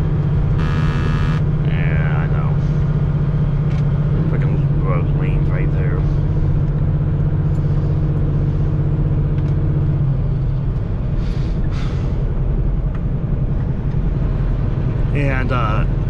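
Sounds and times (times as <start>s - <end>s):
diesel truck engine: 0.0s - 16.0s
road rumble: 0.0s - 16.0s.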